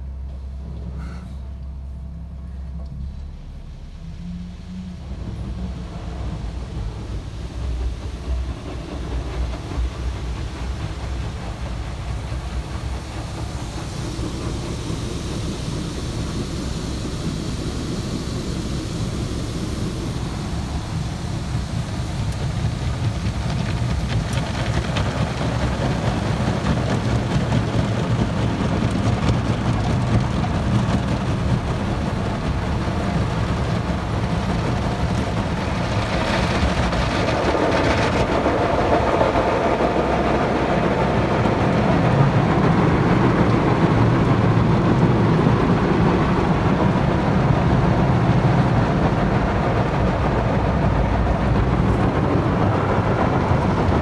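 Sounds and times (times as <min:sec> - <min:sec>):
spraying water: 0:05.6 - 0:50.7.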